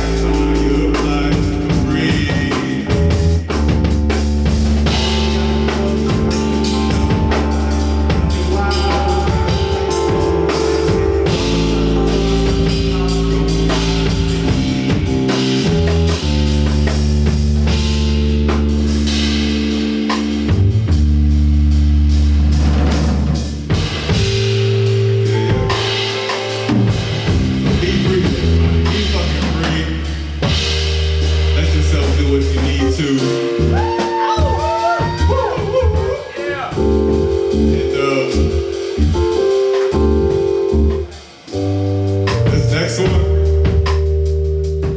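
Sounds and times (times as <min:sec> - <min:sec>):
bass guitar low notes: 0:00.0 - 0:44.9
rock band playing: 0:00.0 - 0:44.9.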